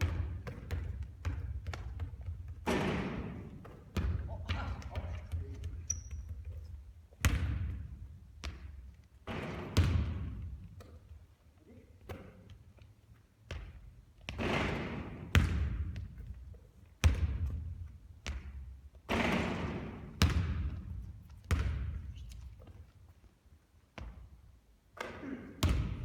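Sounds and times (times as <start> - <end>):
basketball bouncing on hard court: 0.0 - 11.2, 13.4 - 22.9, 24.0 - 24.4, 25.0 - 26.0.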